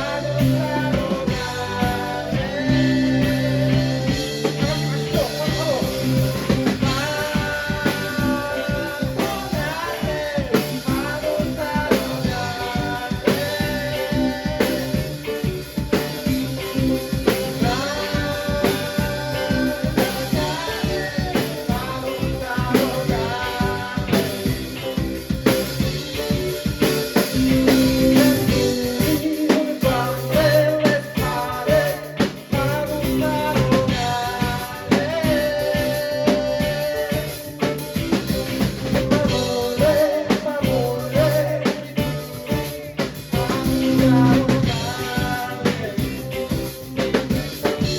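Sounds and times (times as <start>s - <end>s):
drum kit: 0.0s - 47.9s
person singing: 0.0s - 47.9s
rock band playing: 0.0s - 47.9s.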